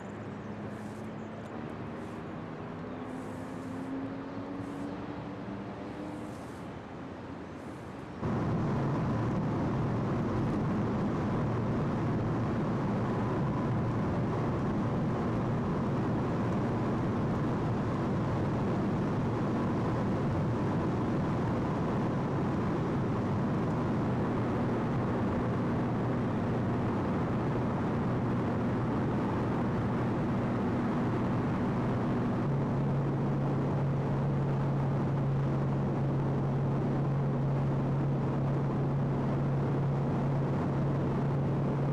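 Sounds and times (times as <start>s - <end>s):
low engine drone: 0.0s - 6.8s, 7.5s - 41.9s.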